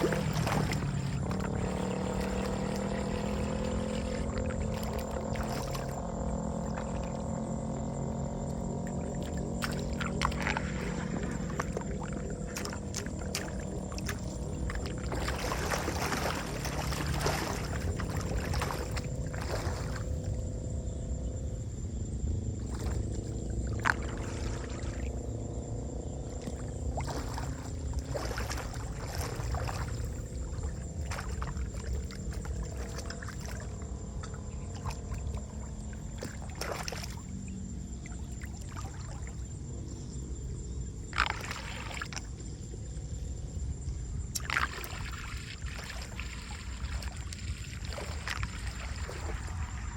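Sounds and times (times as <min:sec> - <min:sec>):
machine engine droning: 0:00.0 - 0:42.8.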